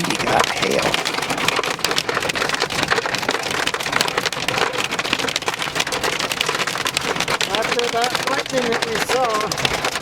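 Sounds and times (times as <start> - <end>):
heavy rain and hail pelting: 0.0 - 10.0.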